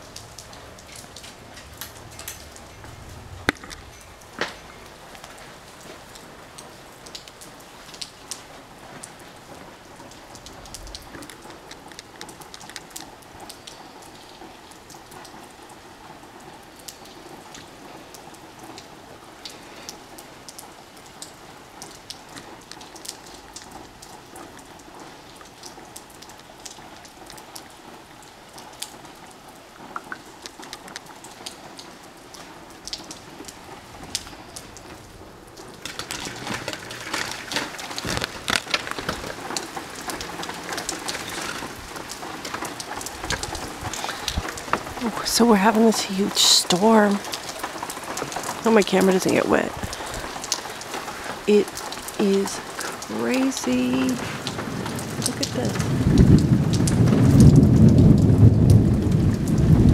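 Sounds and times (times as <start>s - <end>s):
rain falling: 0.0s - 59.9s
raindrops ticking close by: 0.0s - 59.9s.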